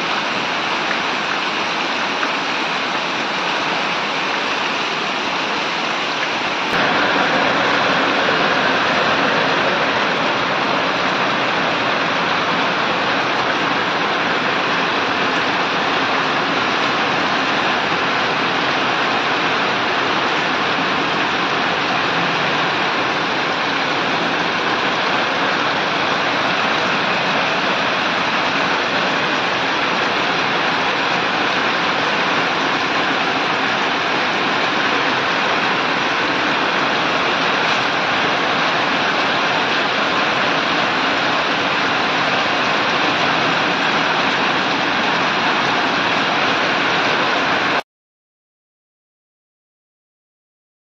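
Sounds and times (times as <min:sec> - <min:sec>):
heavy rain on concrete roof: 0:00.0 - 0:47.8.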